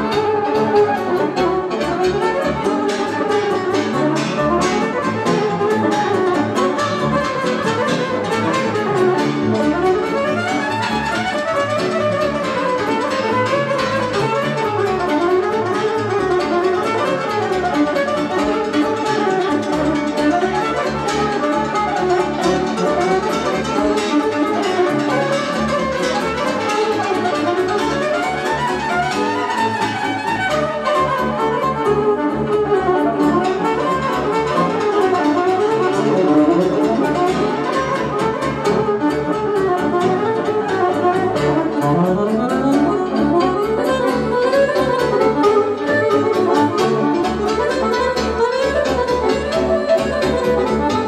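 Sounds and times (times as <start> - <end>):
electric violin melody: 0.0 - 51.0
hammered cimbalom strings: 0.0 - 51.0.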